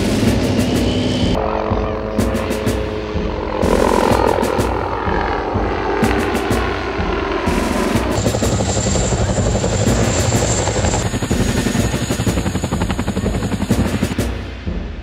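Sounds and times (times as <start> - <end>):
helicopter rotor blades chopping: 0.0 - 15.0.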